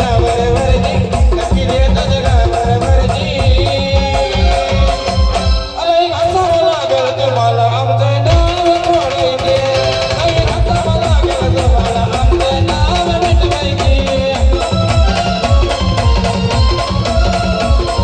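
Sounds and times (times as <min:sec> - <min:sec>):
fast drum beat: 0:00.0 - 0:07.6, 0:08.3 - 0:18.0.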